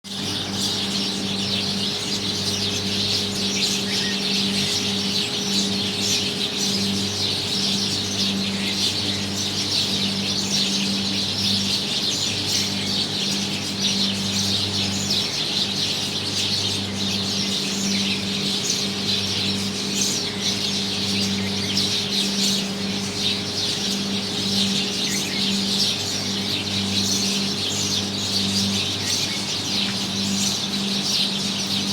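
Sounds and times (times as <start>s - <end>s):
birds chirping: 0.1s - 31.9s
steady low hum: 0.1s - 31.9s.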